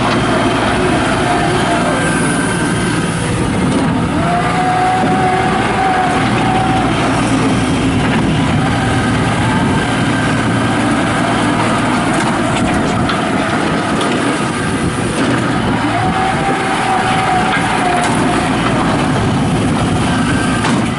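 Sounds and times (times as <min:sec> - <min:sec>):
diesel engine running: 0:00.0 - 0:20.9
engine whine: 0:00.0 - 0:20.9.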